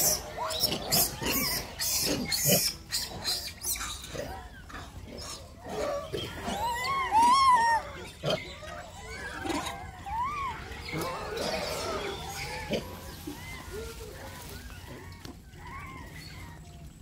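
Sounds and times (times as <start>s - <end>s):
monkey squealing: 0.0s - 4.1s, 6.0s - 16.0s.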